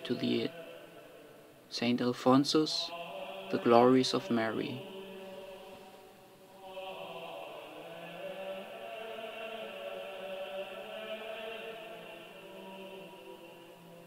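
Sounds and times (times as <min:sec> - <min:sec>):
slow chant-like music: 0:00.0 - 0:14.0.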